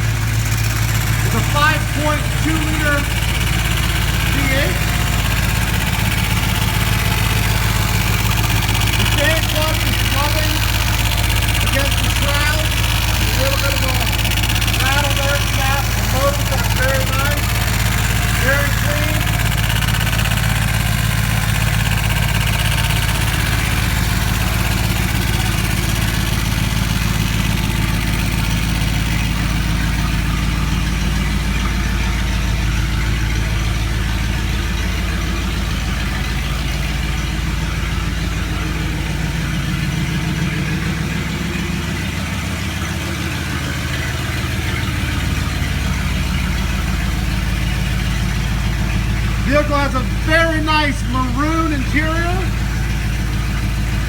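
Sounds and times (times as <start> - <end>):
fan clutch rubbing: 0.0 - 54.0
truck engine idling: 0.0 - 54.0.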